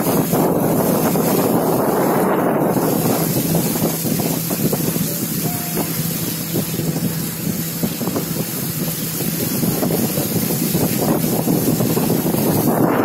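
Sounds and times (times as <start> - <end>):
outboard motor running: 0.0 - 13.0
wind buffeting microphone: 0.0 - 13.0.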